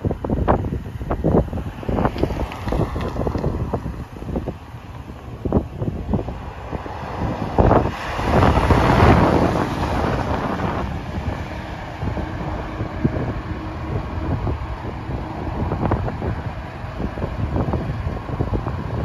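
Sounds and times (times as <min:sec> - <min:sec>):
road noise: 0:00.0 - 0:19.0
truck driving past: 0:00.0 - 0:19.0
wind buffeting microphone: 0:00.0 - 0:19.0.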